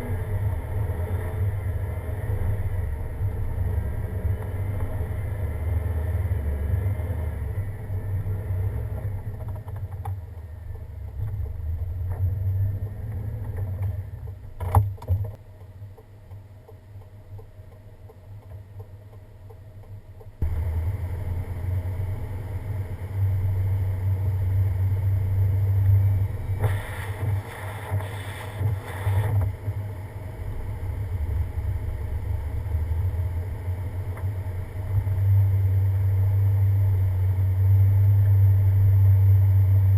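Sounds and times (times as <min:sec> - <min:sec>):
truck engine and tyres rumbling: 0:00.0 - 0:39.9.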